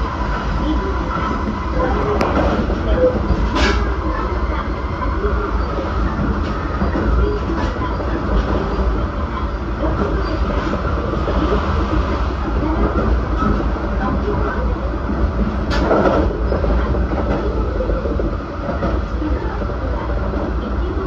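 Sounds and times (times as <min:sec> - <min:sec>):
rail clicks: 0:00.0 - 0:21.0
train wheels rumbling on rails: 0:00.0 - 0:21.0.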